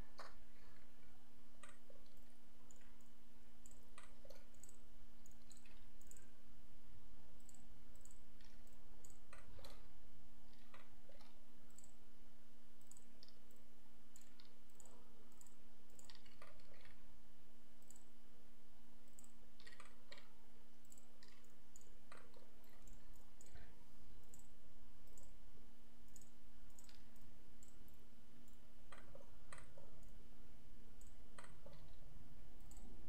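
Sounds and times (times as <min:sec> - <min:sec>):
low electrical hum and hiss: 0:00.0 - 0:33.0
computer mouse clicking: 0:00.1 - 0:06.3, 0:07.4 - 0:09.9, 0:10.5 - 0:12.0, 0:12.8 - 0:17.1, 0:17.8 - 0:18.1, 0:19.0 - 0:25.4, 0:26.0 - 0:30.2, 0:31.0 - 0:33.0.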